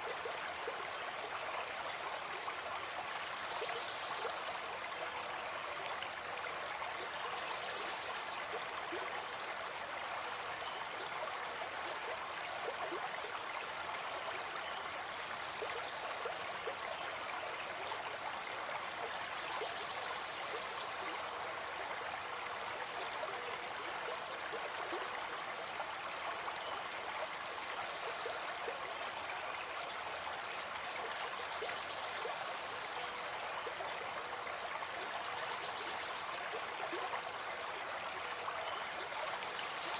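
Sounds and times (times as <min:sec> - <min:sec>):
stream of water babbling: 0:00.0 - 0:39.9.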